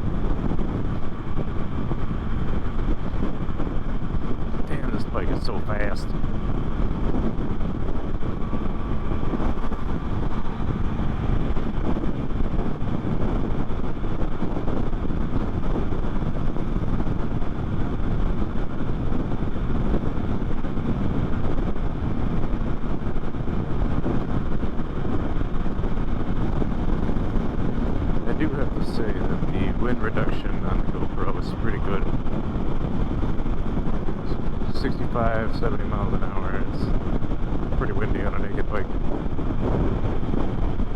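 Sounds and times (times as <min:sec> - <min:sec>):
wind rush on camera: 0:00.0 - 0:40.9.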